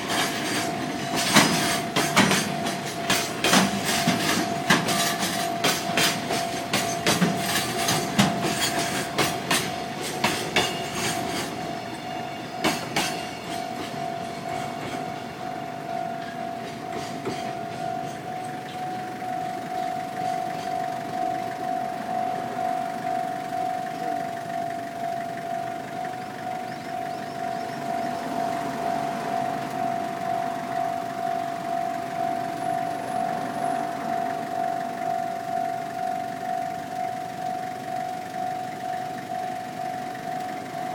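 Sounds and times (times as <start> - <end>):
wagon wheels clanking over rail joints: 0.0 - 36.3
crossing warning bell: 0.0 - 40.9
idling engine rumbling: 0.0 - 40.9.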